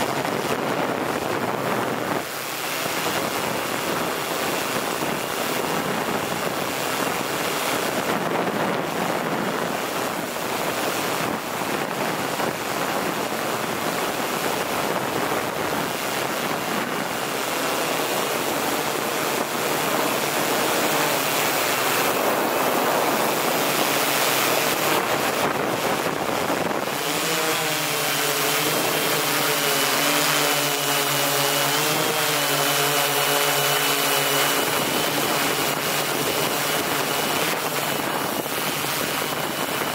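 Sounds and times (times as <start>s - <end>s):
model aircraft motor whine: 0.0s - 39.9s
wind rushing over microphone: 0.0s - 39.9s.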